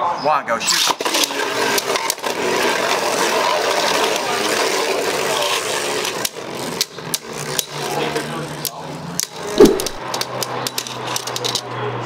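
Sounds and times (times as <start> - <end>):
spinning tops whirring on plastic: 0.6 - 11.8
spinning tops clacking: 0.7 - 11.7.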